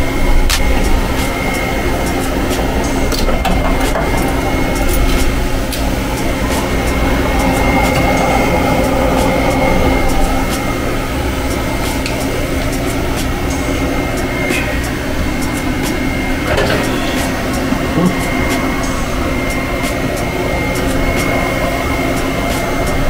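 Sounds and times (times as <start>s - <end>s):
constant high-pitched tone: 0.0s - 23.0s
workshop machinery running: 0.0s - 23.0s.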